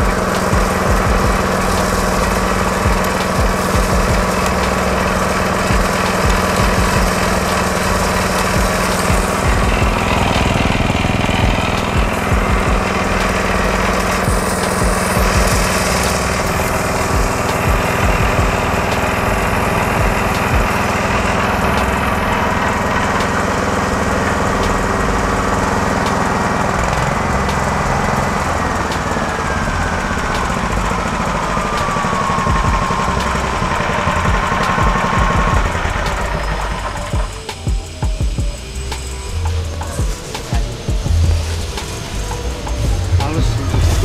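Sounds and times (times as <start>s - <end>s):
high whine falling in pitch: 0.0s - 44.0s
small petrol engine hum: 0.0s - 44.0s.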